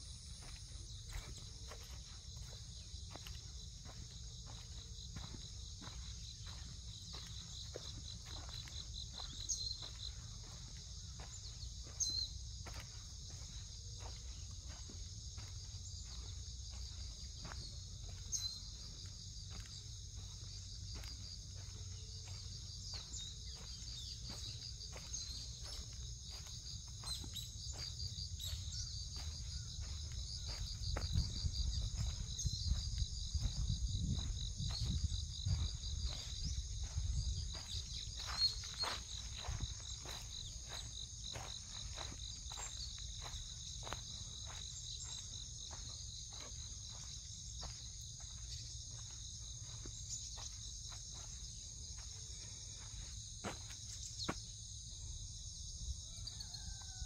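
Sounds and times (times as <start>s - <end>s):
footsteps crunching on dry leaves: 0.0s - 54.4s
insects chirring: 0.0s - 57.0s.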